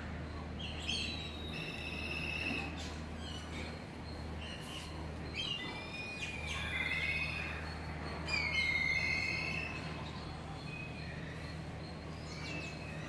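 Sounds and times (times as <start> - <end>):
steady low hum: 0.0 - 13.0
birds whistling and chirping: 0.6 - 13.0.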